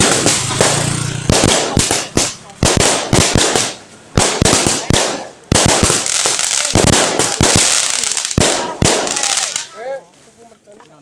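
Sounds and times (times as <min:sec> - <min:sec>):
firecrackers banging: 0:00.0 - 0:09.8.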